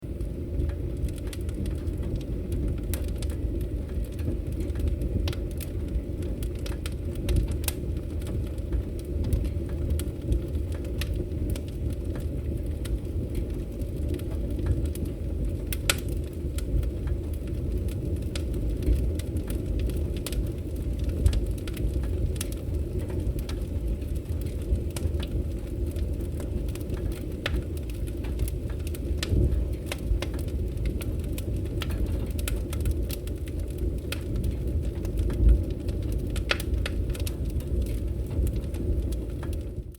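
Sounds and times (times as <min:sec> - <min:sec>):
fire crackling and popping: 0:00.0 - 0:39.9
fire roaring: 0:00.0 - 0:39.9.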